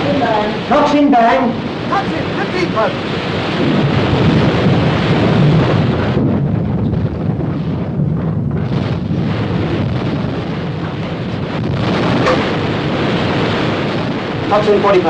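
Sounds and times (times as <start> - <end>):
explosion rumbling: 0.0 - 15.0.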